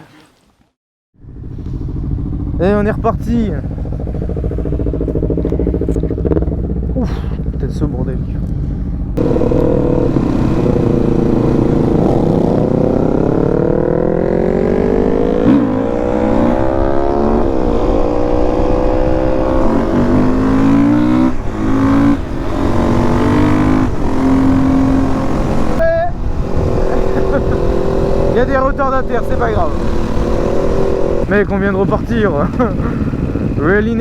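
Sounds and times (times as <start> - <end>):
motorcycle engine accelerating: 1.2 - 34.0.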